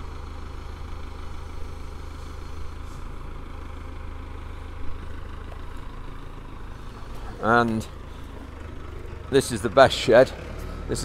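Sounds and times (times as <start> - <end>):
telehandler and lorry engines: 0.0 - 11.0.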